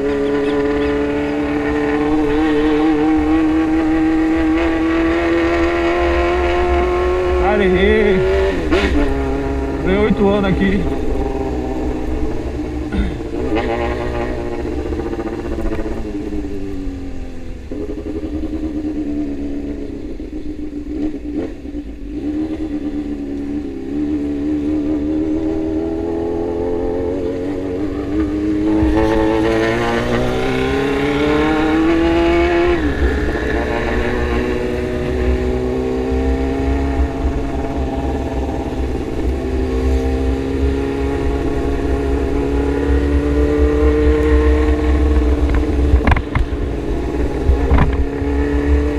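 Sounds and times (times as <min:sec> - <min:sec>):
motorcycle engine: 0:00.0 - 0:48.9.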